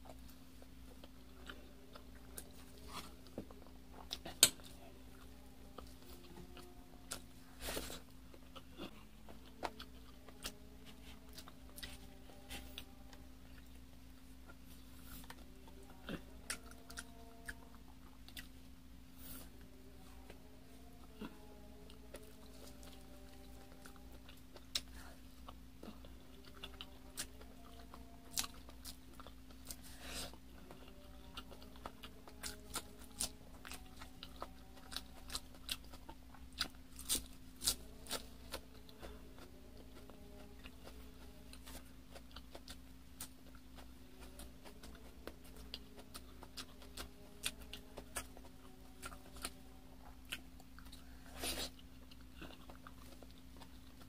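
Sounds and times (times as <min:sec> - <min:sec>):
close-up chewing and biting: 0:00.0 - 0:18.6, 0:19.3 - 0:54.0.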